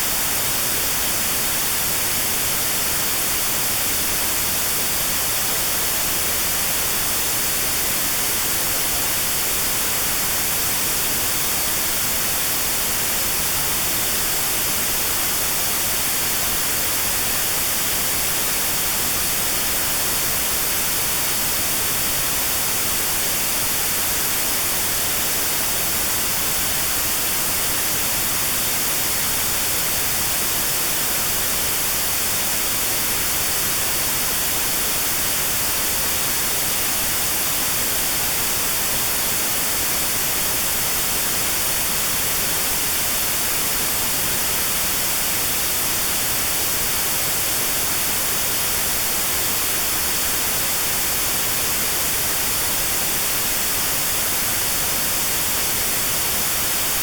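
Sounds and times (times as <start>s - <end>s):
steady filtered white noise hiss: 0.0s - 57.0s.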